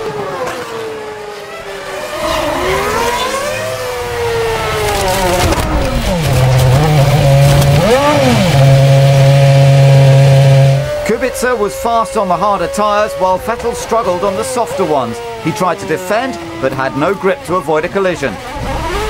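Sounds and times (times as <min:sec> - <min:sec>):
racing car engine: 0:00.0 - 0:19.0.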